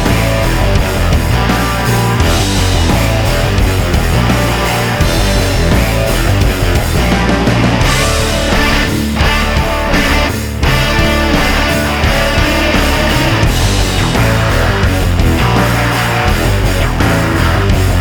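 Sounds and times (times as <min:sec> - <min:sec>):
heavy metal rock music: 0:00.0 - 0:18.0.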